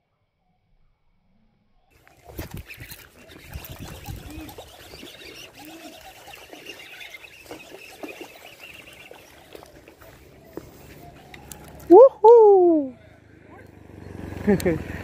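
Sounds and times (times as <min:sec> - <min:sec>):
birds chirping: 0:01.9 - 0:15.0.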